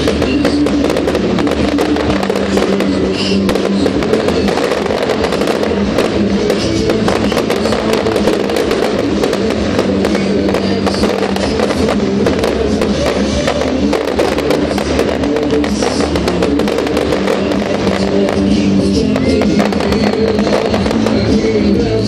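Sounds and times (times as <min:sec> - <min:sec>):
fireworks crackling and banging: 0:00.0 - 0:22.0
music with held notes: 0:00.0 - 0:22.0.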